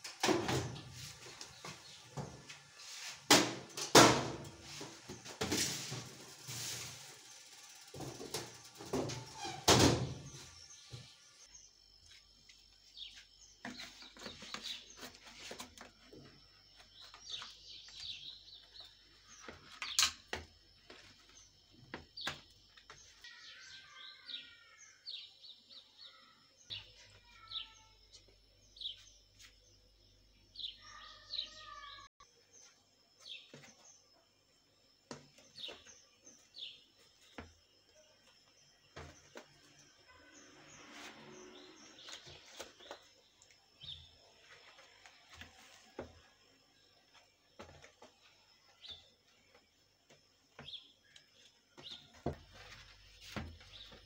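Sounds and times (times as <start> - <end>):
birds chirping: 7.9 - 54.0.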